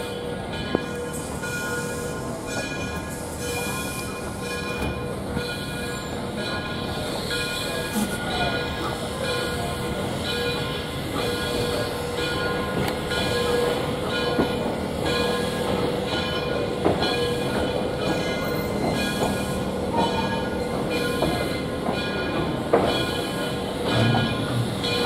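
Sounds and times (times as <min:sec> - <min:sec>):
train running noise and hum: 0:00.0 - 0:25.0
train wheels rhythmic beat: 0:00.0 - 0:25.0.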